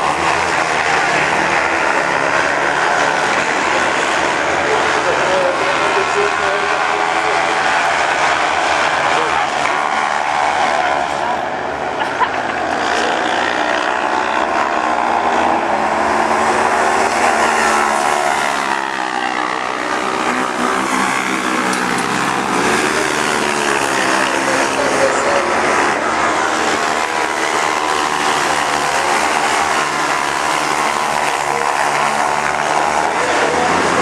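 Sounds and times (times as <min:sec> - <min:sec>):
racing buggy engines revving: 0:00.0 - 0:34.0.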